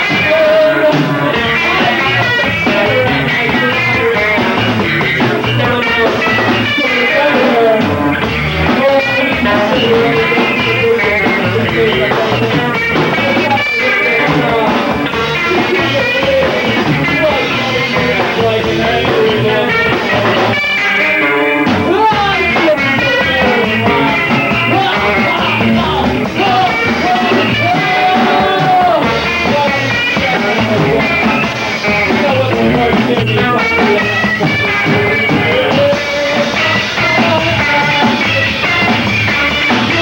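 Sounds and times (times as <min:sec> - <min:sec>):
rock band playing live: 0:00.0 - 0:40.0.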